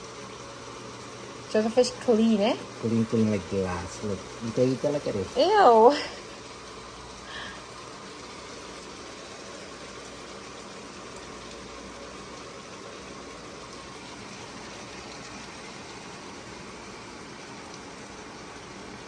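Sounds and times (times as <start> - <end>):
pot bubbling on stove: 0.0 - 19.0.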